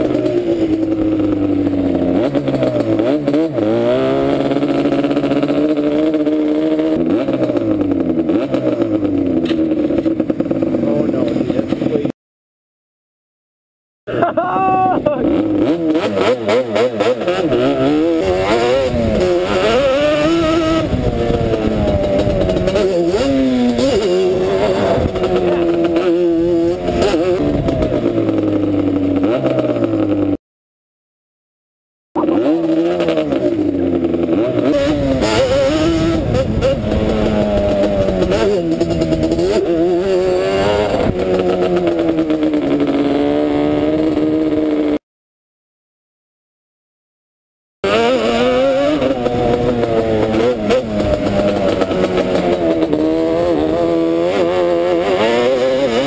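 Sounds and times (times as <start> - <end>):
atv engine revving: 0.0 - 12.1, 14.1 - 30.4, 32.2 - 45.0, 47.8 - 56.0.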